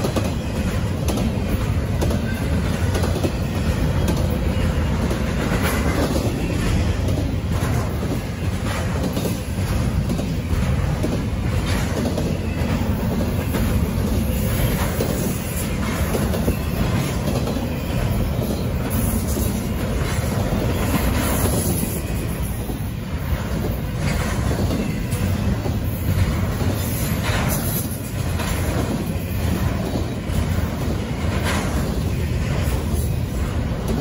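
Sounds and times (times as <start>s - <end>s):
freight train rumble: 0.0s - 34.0s
train wheels clicking over rail joints: 0.0s - 34.0s.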